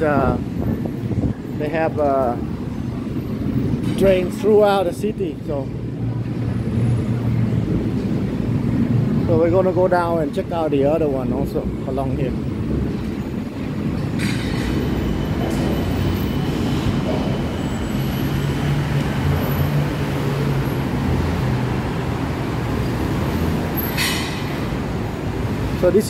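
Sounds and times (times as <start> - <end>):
electric train rumbling overhead: 0.0 - 26.0.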